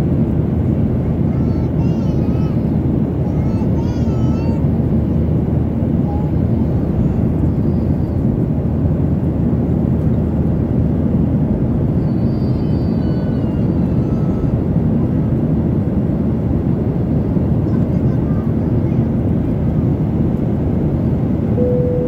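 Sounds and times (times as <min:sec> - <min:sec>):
airliner cabin jet rumble: 0:00.0 - 0:22.0.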